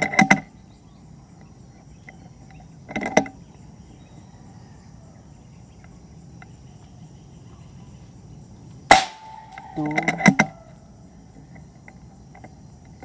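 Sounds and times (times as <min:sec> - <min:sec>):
crickets buzzing: 0:00.0 - 0:13.0.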